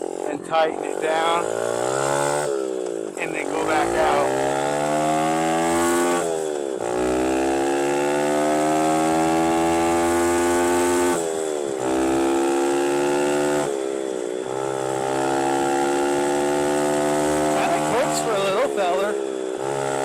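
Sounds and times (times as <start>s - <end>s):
mini dirt bike engine revving: 0.0s - 20.0s.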